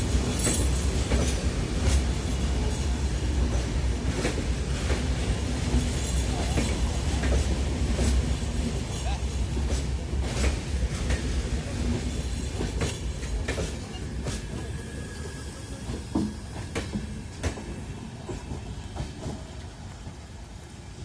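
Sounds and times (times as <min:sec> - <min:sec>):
train wheels clacking over rail joints: 0:00.0 - 0:14.9, 0:15.7 - 0:19.7
train rumble: 0:00.0 - 0:21.0.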